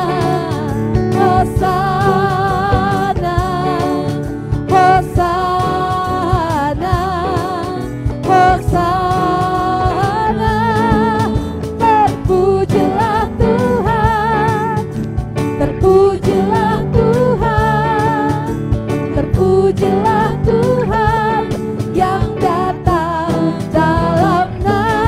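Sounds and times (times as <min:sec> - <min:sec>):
singers singing together: 0:00.0 - 0:15.0, 0:15.6 - 0:25.0
bass guitar: 0:00.0 - 0:25.0
drums: 0:00.0 - 0:25.0
keyboard: 0:00.0 - 0:25.0.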